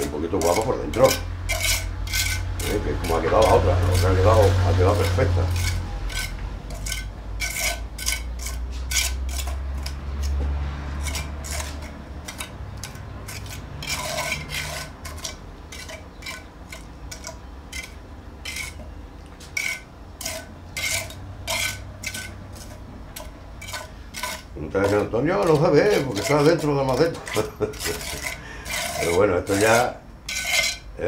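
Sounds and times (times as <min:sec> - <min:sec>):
hand tool scraping cement: 0:00.0 - 0:30.9.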